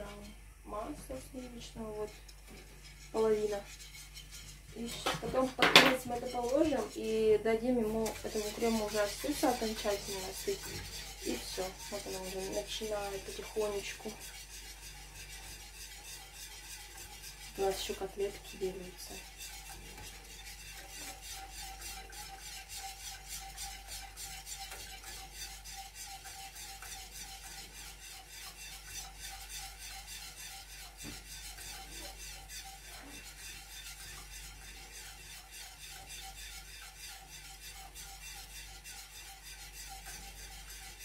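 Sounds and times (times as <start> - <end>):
spoon scraping a saucepan: 1.1 - 41.0.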